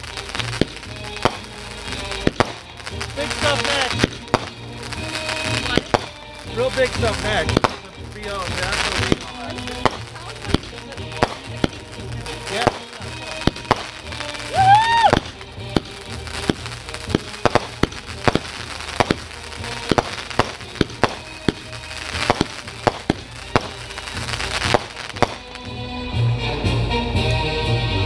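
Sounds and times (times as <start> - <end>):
firework whistle: 0.0 - 25.7
fireworks cracking and popping: 0.0 - 25.9
music: 0.0 - 28.0.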